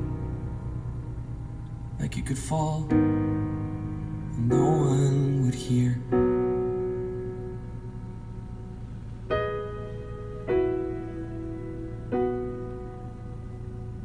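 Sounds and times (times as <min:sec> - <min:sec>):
piano chords over car speakers: 0:00.0 - 0:14.0.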